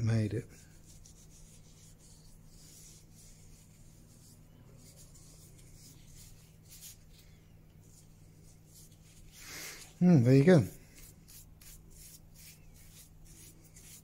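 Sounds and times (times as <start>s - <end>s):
soft brushing strokes: 0.0s - 14.0s.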